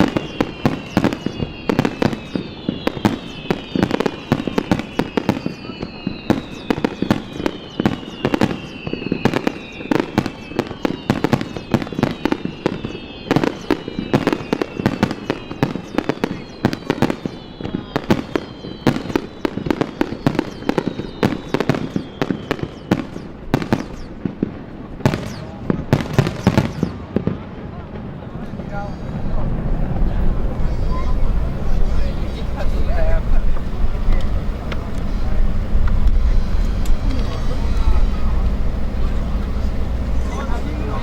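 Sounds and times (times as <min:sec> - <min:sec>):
fireworks shells bursting: 0:00.0 - 0:27.4, 0:28.4 - 0:41.0
fireworks whistles falling in pitch: 0:00.0 - 0:41.0.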